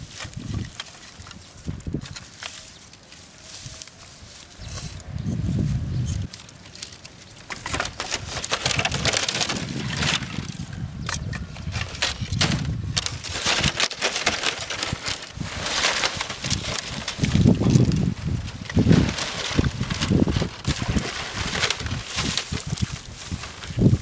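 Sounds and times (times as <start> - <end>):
dry palm fronds rustling and crackling: 0.0 - 24.0.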